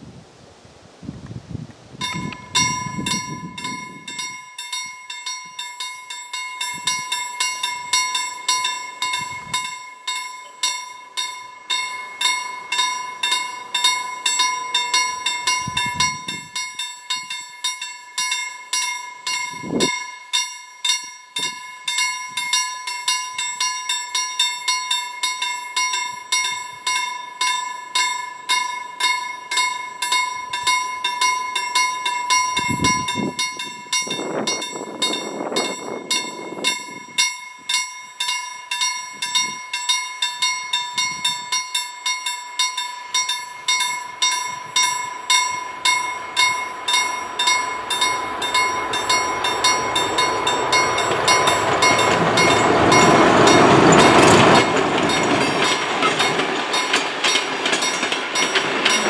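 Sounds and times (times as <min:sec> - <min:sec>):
level crossing warning bell: 0:02.0 - 0:59.0.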